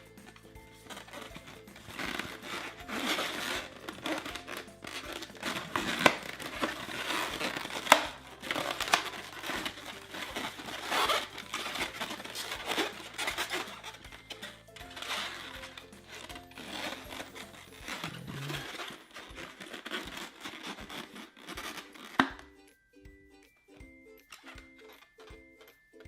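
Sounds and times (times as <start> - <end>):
balloon rubbing and squeaking: 0.0 - 22.4.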